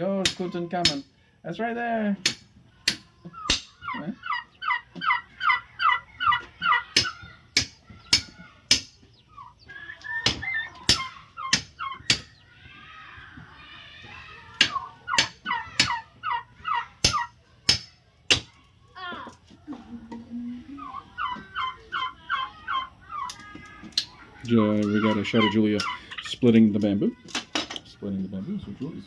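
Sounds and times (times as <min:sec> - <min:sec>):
turkeys calling: 0:02.2 - 0:12.8, 0:13.4 - 0:17.5, 0:19.2 - 0:29.0.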